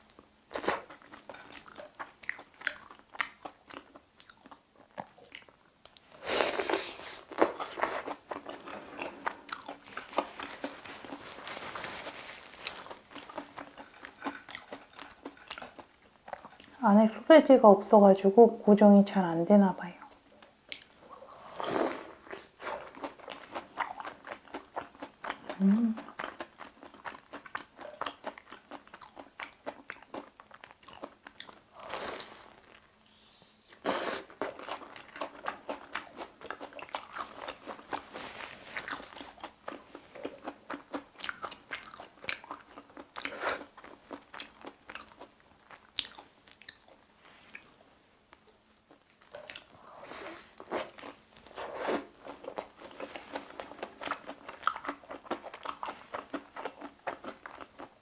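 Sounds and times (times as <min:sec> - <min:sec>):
crunching and chewing fried food: 0:00.0 - 0:16.9, 0:20.0 - 0:33.0, 0:33.8 - 0:58.0.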